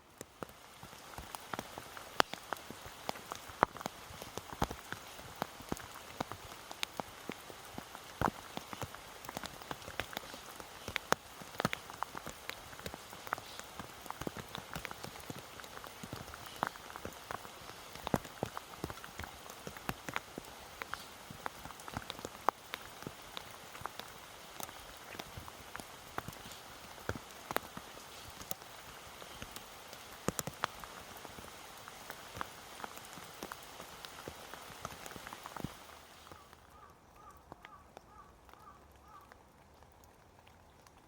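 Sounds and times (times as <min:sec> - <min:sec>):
rain patter: 0:00.0 - 0:41.0.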